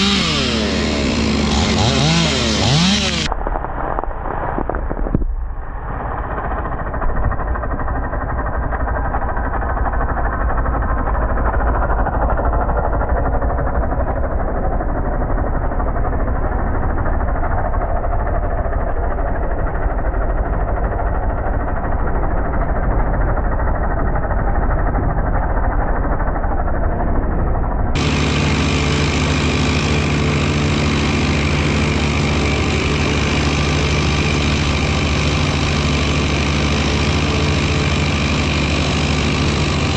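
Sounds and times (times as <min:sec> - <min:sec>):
engine idling low hum: 0:00.0 - 0:39.9
engine running: 0:00.0 - 0:39.9.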